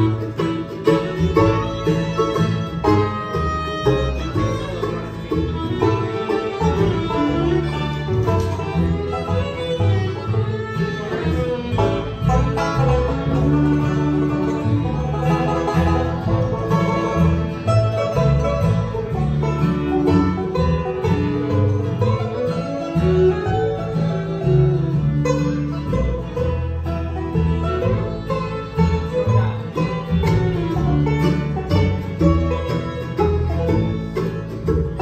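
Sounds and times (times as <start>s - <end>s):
bluegrass band playing: 0.0s - 35.0s
quick banjo picking: 0.0s - 35.0s.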